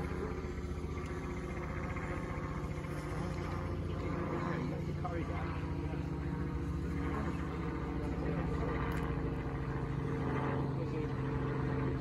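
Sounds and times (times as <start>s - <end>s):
helicopter flying overhead: 0.0s - 12.0s.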